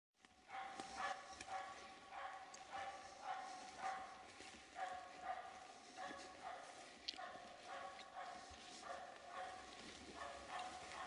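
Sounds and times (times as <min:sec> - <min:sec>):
dog barking: 0:00.5 - 0:11.0.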